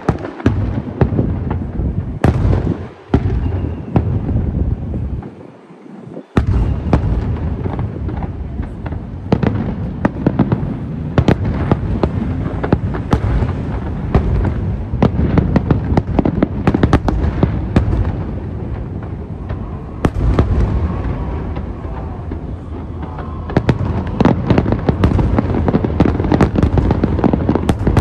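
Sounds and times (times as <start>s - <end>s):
fireworks bangs and crackles: 0.0s - 28.0s
continuous low rumble: 0.6s - 28.0s.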